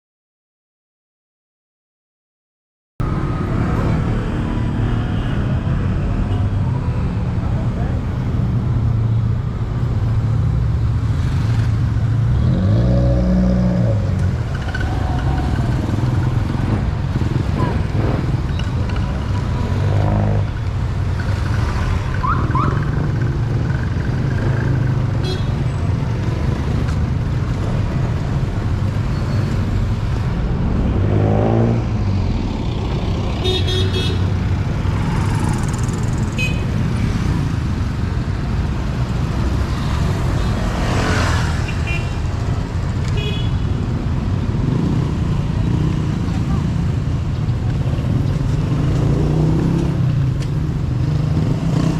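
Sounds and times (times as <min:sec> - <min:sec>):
traffic rumble: 0:03.0 - 0:51.9.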